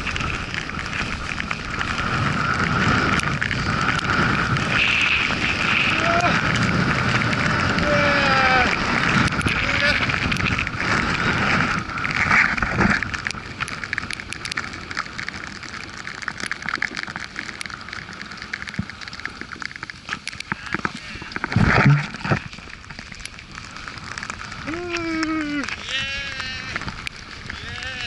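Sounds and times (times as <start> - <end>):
snowboard sliding over snow: 0.0 - 28.0.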